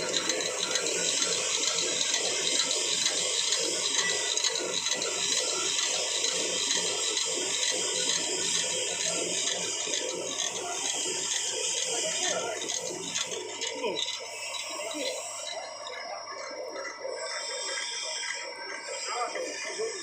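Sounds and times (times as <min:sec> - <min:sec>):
continuous mechanical rattling: 0:00.0 - 0:20.0
machine hum: 0:00.0 - 0:20.0.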